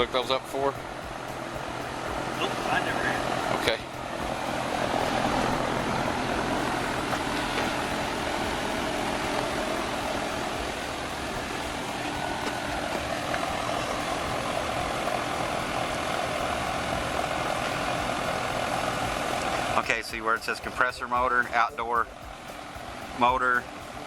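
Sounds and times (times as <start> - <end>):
heat pump unit humming: 0.0 - 24.0.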